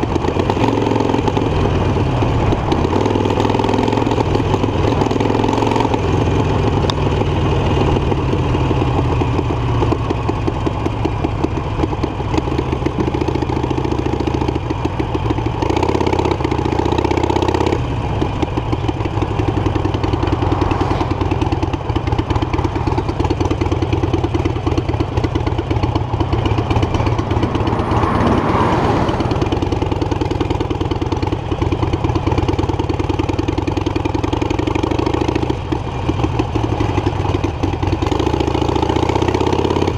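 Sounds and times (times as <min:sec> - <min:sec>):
motorcycle engine throbbing: 0:00.0 - 0:39.9.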